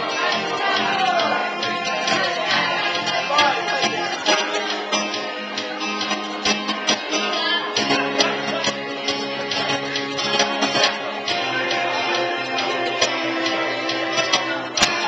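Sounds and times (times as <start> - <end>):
plucked and strummed guitar music: 0.0 - 15.0.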